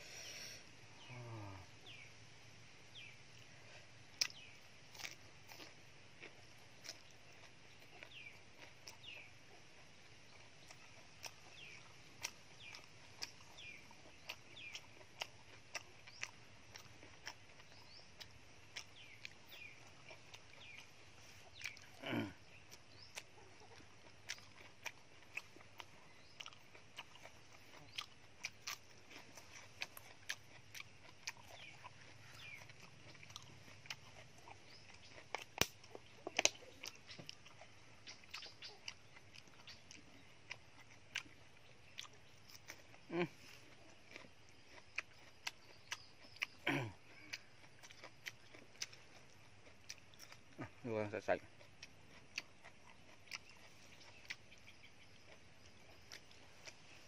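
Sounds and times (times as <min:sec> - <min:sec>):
chewing soft food: 0:02.9 - 0:57.0.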